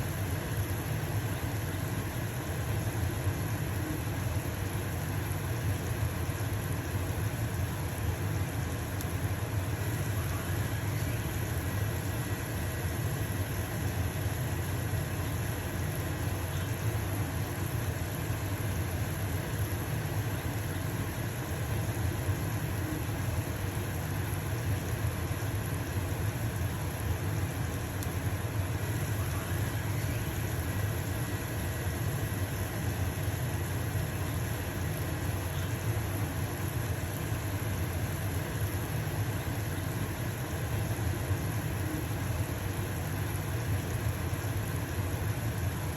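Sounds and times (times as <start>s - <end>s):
pancake sizzling in a frying pan: 0.0s - 45.9s
range hood fan humming: 0.0s - 45.9s.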